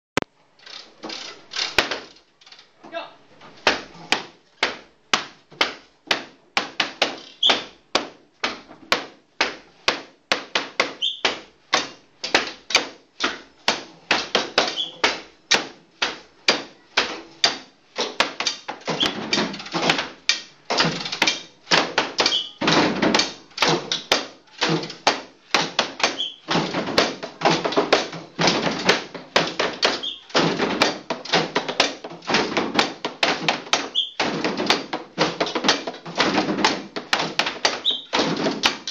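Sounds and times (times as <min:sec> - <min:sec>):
sharp knocks on hard objects: 0:01.7 - 0:02.1, 0:03.6 - 0:38.9.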